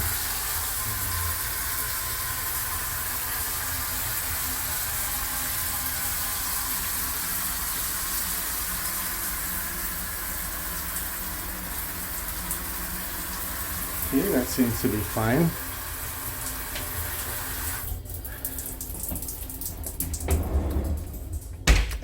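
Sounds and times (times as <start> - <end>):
shower water spraying: 0.0 - 21.7.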